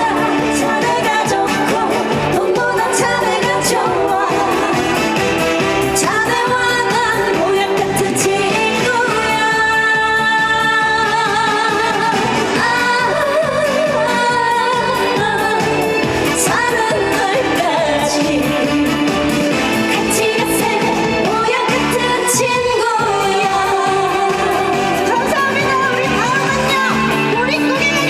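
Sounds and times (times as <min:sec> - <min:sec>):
woman singing: 0:00.0 - 0:05.2, 0:05.8 - 0:28.0
backing track with steady beat: 0:00.0 - 0:28.0.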